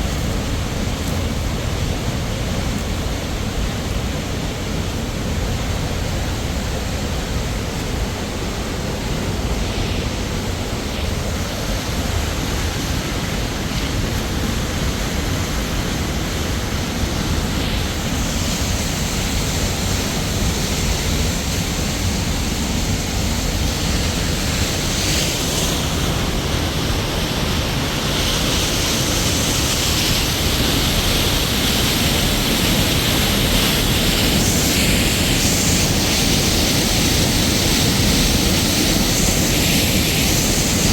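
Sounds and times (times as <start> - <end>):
loud rushing noise: 7.6 - 40.9.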